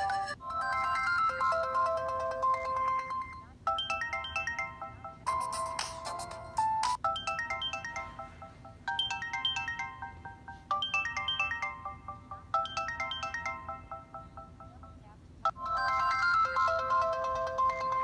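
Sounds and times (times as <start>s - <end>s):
melodic phone ringtone: 0.0s - 18.0s.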